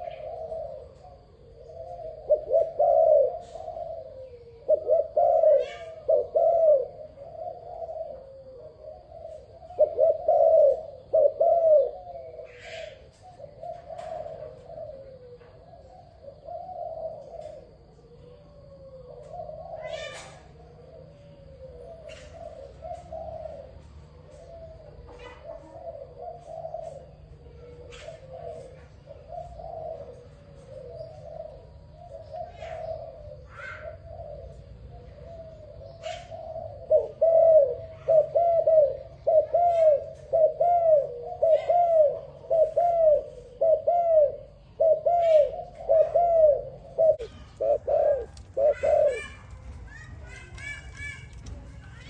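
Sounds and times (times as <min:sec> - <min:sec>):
dove cooing: 0:00.0 - 0:52.0
small birds chirping: 0:00.0 - 0:52.0.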